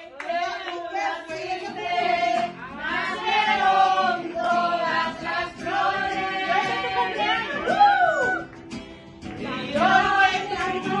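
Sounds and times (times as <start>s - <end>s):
women singing together: 0.0s - 8.5s, 9.2s - 11.0s.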